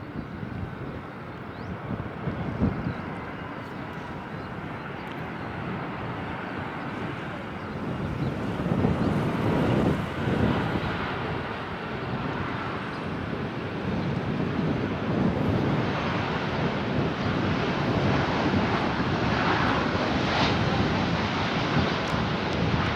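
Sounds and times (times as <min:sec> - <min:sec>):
jet engines passing: 0:00.0 - 0:22.9
wind buffeting microphone: 0:00.0 - 0:22.9.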